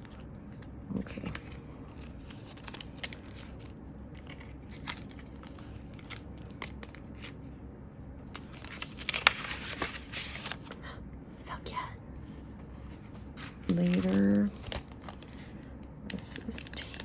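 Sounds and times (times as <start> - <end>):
paper and plastic rustling: 0.0 - 7.4, 8.2 - 10.9, 12.3 - 17.0.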